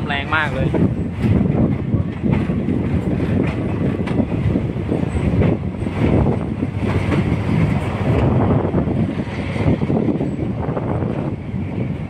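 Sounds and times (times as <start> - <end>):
wind on microphone: 0.0 - 12.0
train wheels clacking: 0.2 - 11.3
steady rumble: 0.7 - 12.0.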